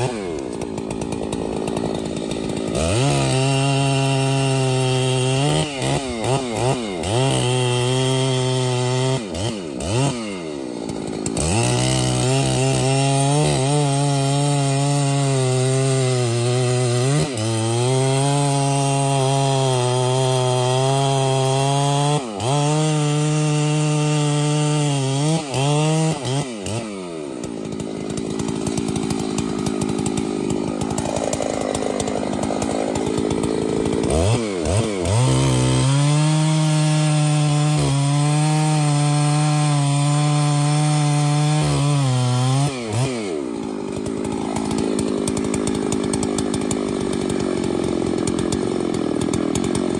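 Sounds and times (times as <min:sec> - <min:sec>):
chainsaw cutting wood: 0:00.0 - 0:49.9
chainsaw revving: 0:00.0 - 0:49.9.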